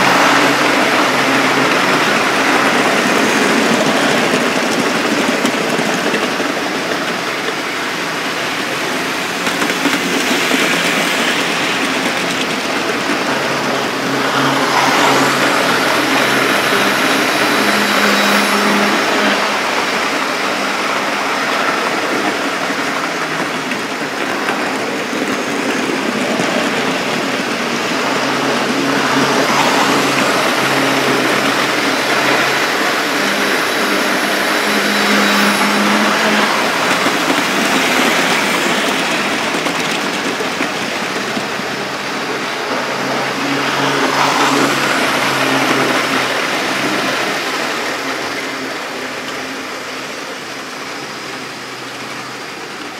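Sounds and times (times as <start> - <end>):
model train motors humming: 0.0 - 52.9
wheels running over rails: 0.0 - 52.9.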